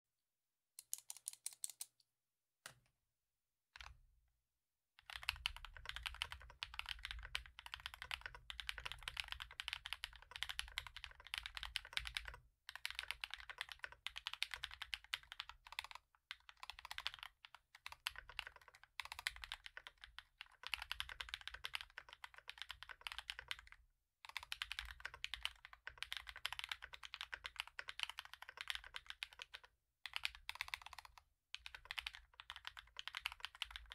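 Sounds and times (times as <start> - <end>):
mechanical keyboard typing: 0.8 - 1.9, 5.0 - 33.9.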